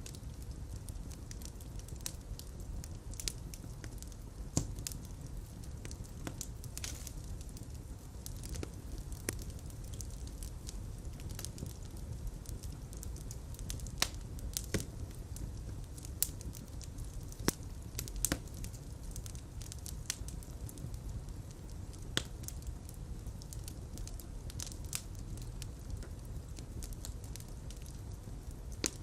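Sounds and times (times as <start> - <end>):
crackles and sharp pops of fire: 0.0 - 29.0
fireplace fire burning: 0.0 - 29.0.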